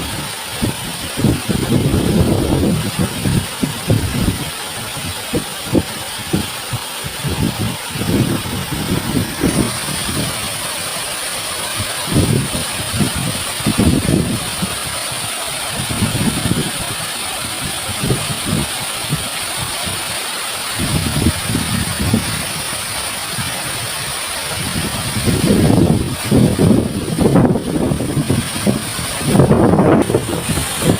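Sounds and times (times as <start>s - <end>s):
waterfall rushing: 0.0s - 30.9s
wind gusting on microphone: 0.0s - 30.9s.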